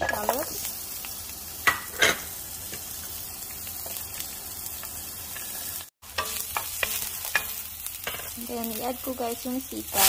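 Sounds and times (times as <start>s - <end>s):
shallots sizzling in hot oil: 0.0s - 10.0s.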